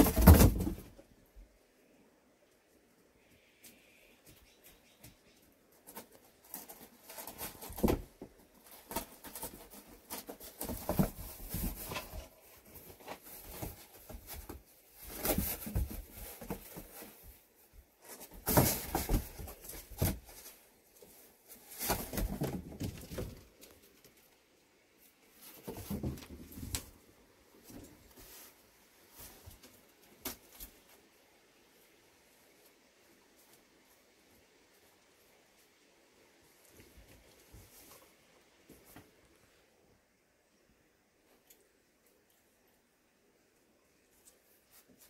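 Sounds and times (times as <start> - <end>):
kittens scuffling and rustling: 0.0 - 40.1, 43.6 - 45.0.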